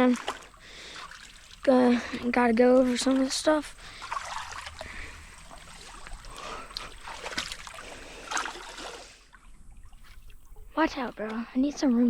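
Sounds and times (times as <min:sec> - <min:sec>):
creek water trickling: 0:00.0 - 0:12.0
splashing steps in water: 0:00.0 - 0:12.0.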